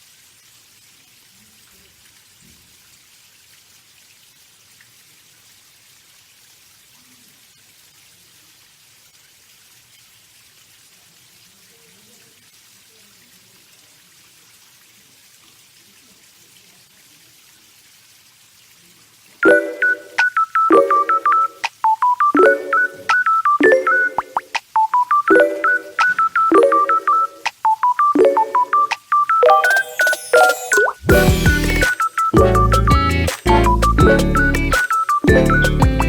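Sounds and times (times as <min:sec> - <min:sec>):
water trickling onto pond: 0:00.0 - 0:36.0.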